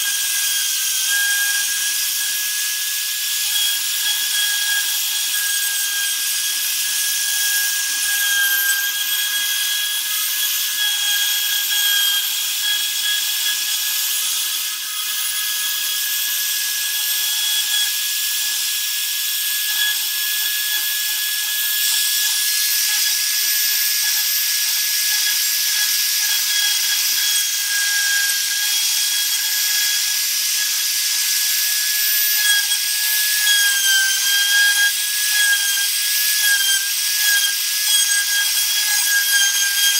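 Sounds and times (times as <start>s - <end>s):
router bit cutting wood: 0.0s - 39.9s
router spindle motor whine: 0.0s - 39.9s.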